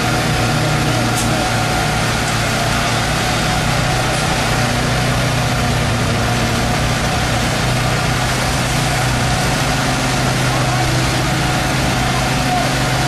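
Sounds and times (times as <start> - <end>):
construction machinery engines running: 0.0 - 13.0.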